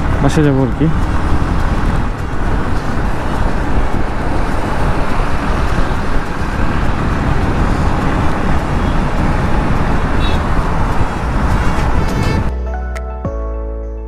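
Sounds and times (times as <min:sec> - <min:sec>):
motorcycle wind and road noise: 0:00.0 - 0:12.5.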